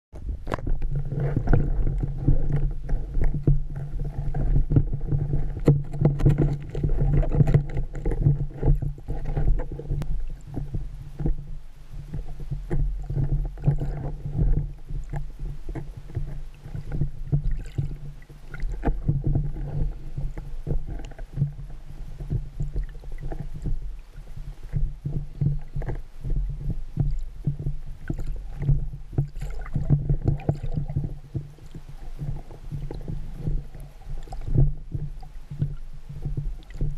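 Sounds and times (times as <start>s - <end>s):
exhaled bubbles: 0.2s - 36.9s.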